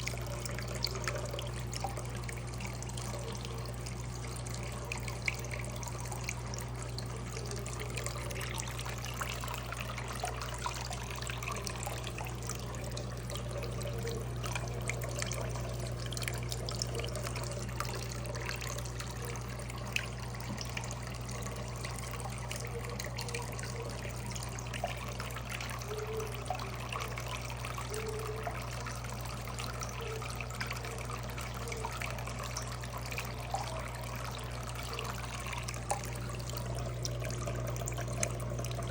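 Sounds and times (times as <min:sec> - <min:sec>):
fountain water trickling: 0:00.0 - 0:38.9
water pump hum: 0:00.0 - 0:38.9.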